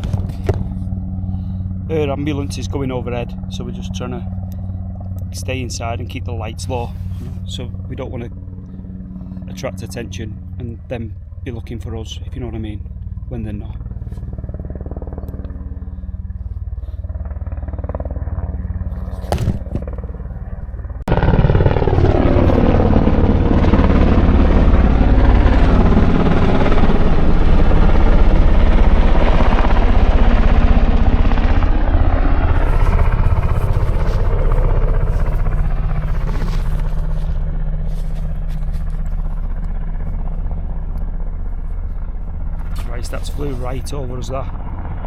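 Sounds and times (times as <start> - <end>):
helicopter rotor and engine rumble: 0.0 - 45.0.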